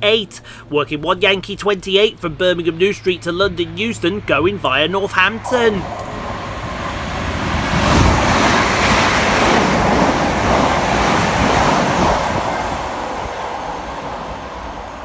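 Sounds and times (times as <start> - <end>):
train passing fast: 0.0 - 15.0.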